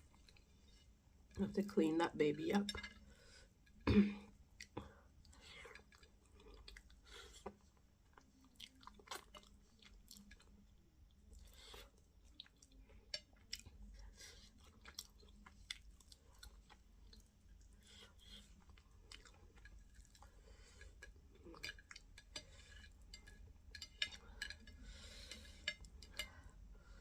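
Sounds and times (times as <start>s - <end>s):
chewing and lip smacking: 4.6s - 26.4s.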